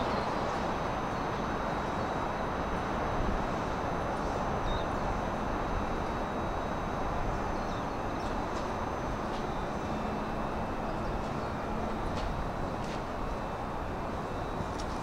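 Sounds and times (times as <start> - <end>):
electric train rush and hum: 0.0 - 15.0.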